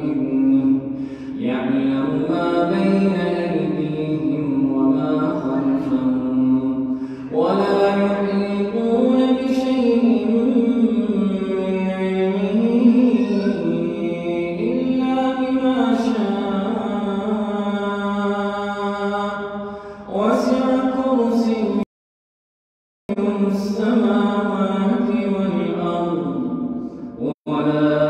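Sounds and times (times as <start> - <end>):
man reciting melodically: 0.0 - 21.9, 23.1 - 28.0.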